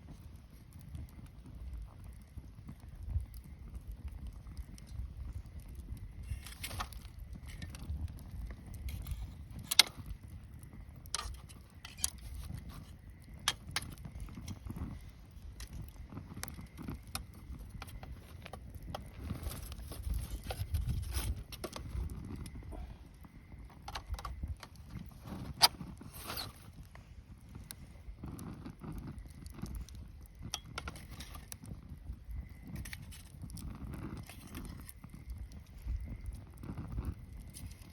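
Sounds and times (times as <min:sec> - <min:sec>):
campfire crackling and popping: 0:00.0 - 0:37.9.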